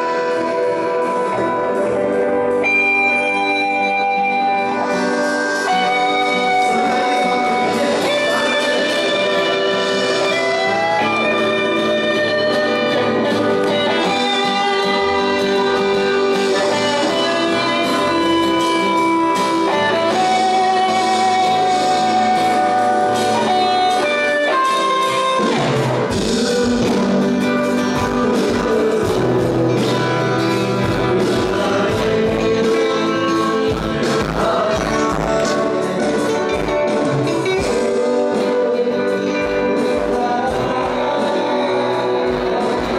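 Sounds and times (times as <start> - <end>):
drums: 0.0 - 42.9
electric guitars: 0.0 - 42.9
man singing: 3.4 - 42.9.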